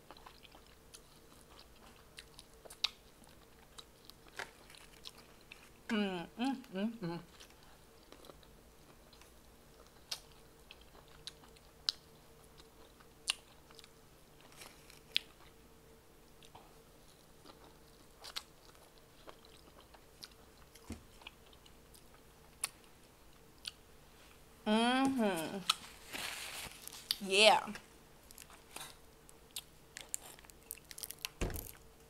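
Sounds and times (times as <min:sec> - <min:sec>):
person chewing food: 0:00.0 - 0:05.8, 0:07.3 - 0:15.6, 0:16.3 - 0:24.3, 0:25.6 - 0:27.2, 0:28.2 - 0:32.0.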